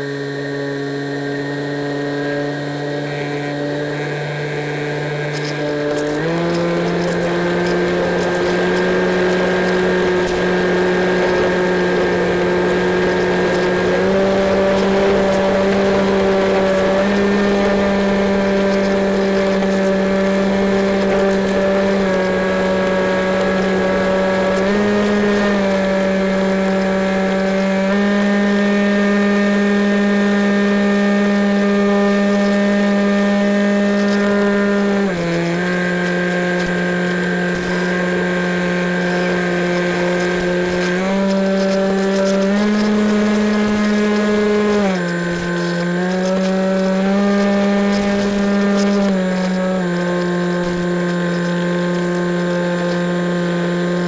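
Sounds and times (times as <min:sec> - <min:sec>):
electric model plane propeller droning: 0:00.0 - 0:54.0.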